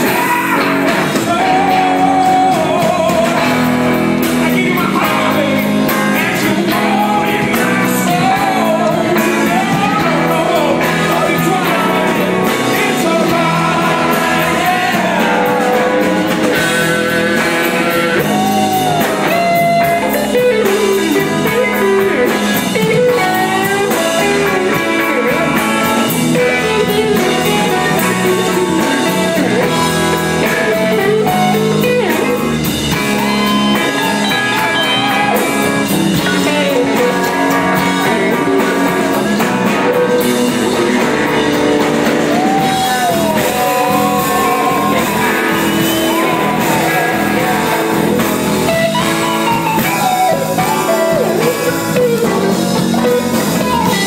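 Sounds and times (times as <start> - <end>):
blues-rock band playing live: 0.0 - 54.0
electric guitar lead bending notes: 0.0 - 54.0.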